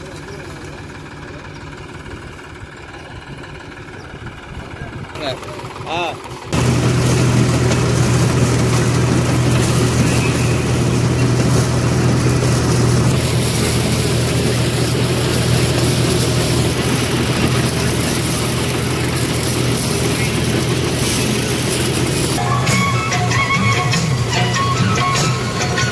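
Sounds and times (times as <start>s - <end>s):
tractor and harvester droning: 0.0s - 25.9s.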